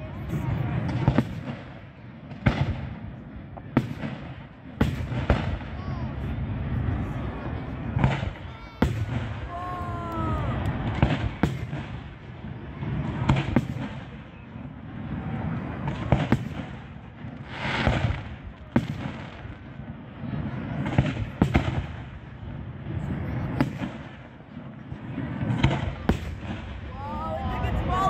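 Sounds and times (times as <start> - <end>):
fireworks bursting: 0.0 - 28.0
low continuous rumble: 0.0 - 28.0.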